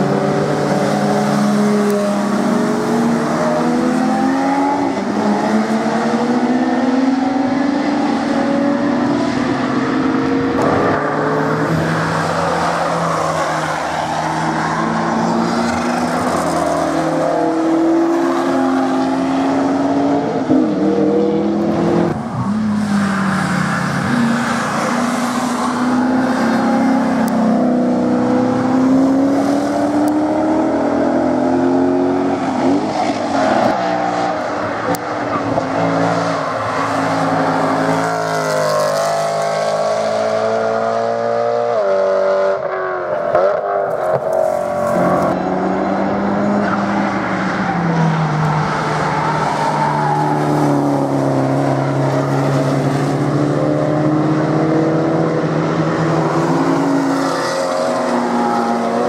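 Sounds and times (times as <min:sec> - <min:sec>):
sports cars passing at speed: 0:00.0 - 0:59.0.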